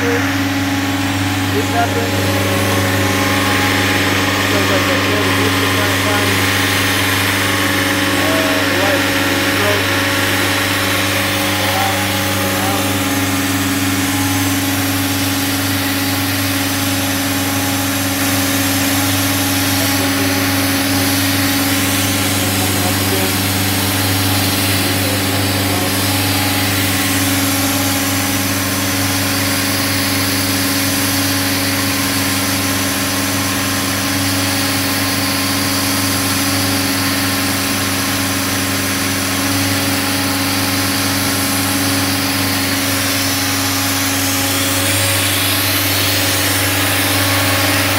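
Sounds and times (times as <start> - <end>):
machine drone: 0.0 - 47.9.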